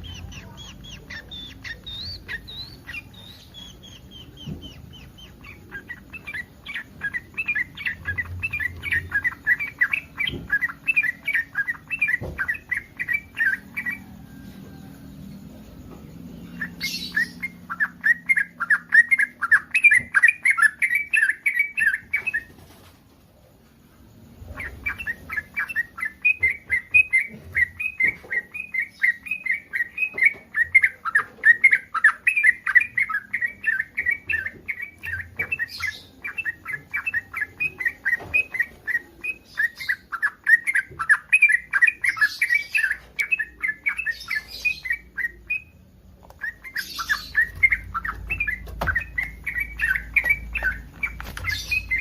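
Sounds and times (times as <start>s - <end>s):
bulbul chattering song: 0.0s - 22.5s, 24.2s - 52.0s.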